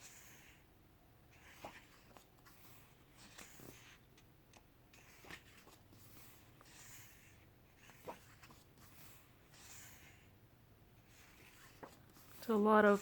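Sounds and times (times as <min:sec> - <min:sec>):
book pages rustling: 0:01.3 - 0:10.2, 0:11.0 - 0:13.0.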